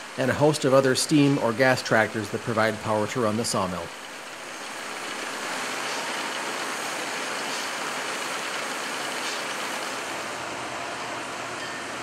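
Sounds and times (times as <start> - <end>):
steam engine running: 0.0 - 10.6.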